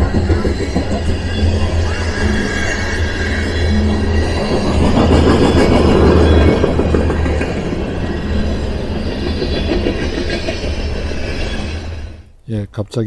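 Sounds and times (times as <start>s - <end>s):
freight train wheels rumbling: 0.0s - 12.3s.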